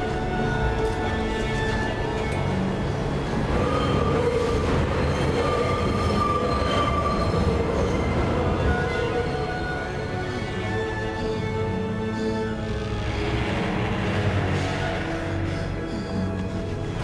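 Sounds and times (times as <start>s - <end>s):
subway train rumbling on rails: 0.0s - 17.0s
high wheel squeal: 1.3s - 17.0s.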